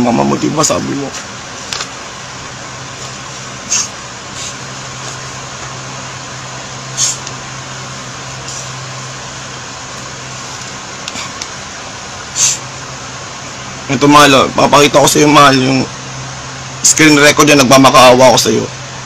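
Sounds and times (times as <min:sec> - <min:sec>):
room noise hiss and hum: 0:00.0 - 0:19.0.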